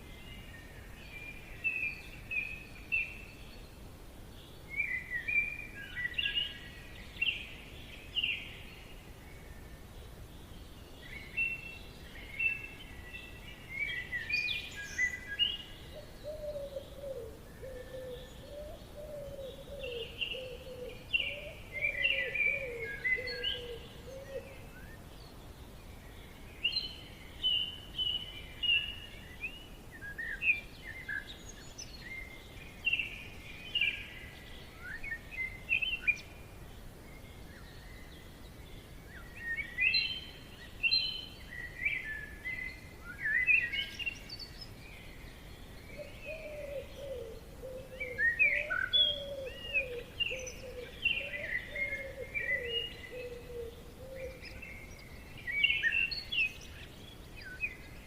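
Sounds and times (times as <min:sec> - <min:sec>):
birds chirping and trilling: 0:00.0 - 0:58.0
faint steady hiss: 0:00.0 - 0:58.0.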